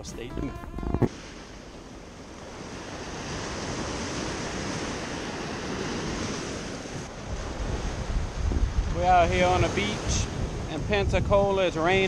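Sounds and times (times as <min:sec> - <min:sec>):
small waves breaking on sand: 0:01.1 - 0:12.0.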